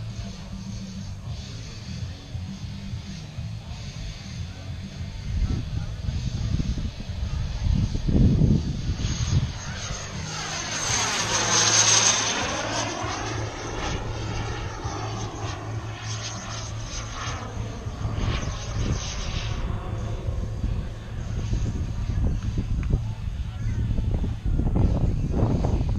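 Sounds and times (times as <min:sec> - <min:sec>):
model airplane engine droning: 0:00.0 - 0:25.9.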